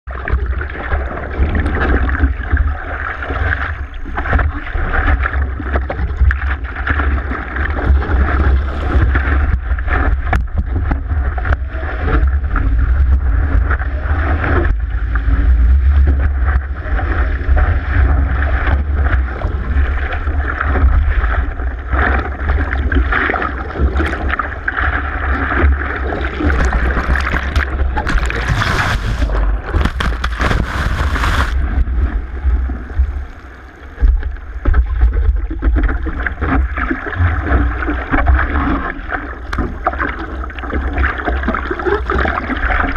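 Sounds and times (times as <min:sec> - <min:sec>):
deep water rumble: 0:00.0 - 0:42.9
water splashing against surfboard: 0:00.3 - 0:42.9.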